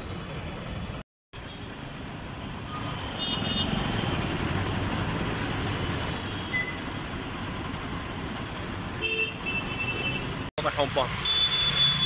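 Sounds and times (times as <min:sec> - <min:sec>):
road noise: 0:00.0 - 0:12.0
vehicle engines: 0:00.0 - 0:12.0.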